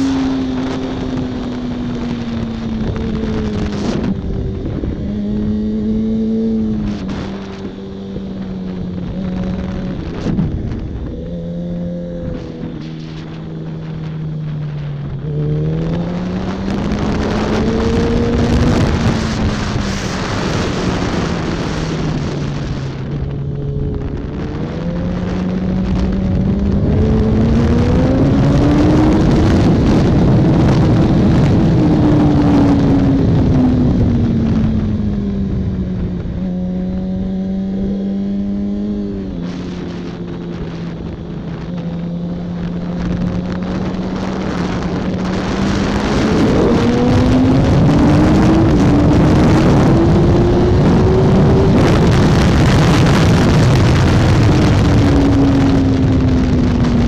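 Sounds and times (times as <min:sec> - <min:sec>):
motorcycle engine racing: 0:00.0 - 0:57.0
wind rush: 0:00.0 - 0:57.0.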